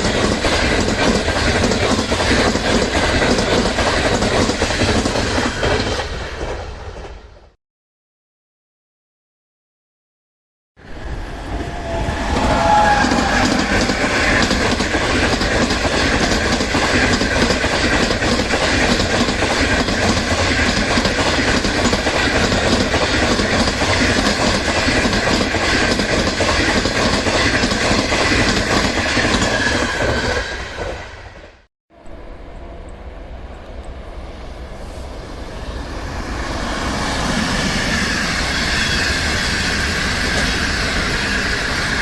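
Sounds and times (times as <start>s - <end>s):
train wheels rumbling over rails: 0.0s - 7.6s, 10.8s - 42.0s.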